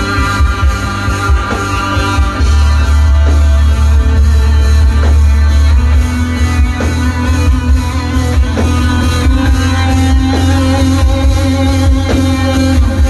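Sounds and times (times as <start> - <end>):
electric guitar sustained notes: 0.0 - 13.0
heavy bass: 0.0 - 13.0.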